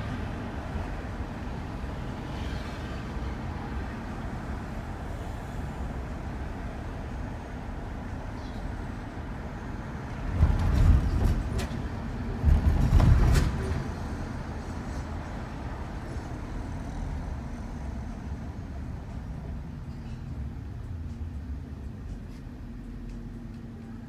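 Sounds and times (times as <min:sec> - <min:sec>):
van road rumble: 0:00.0 - 0:24.0.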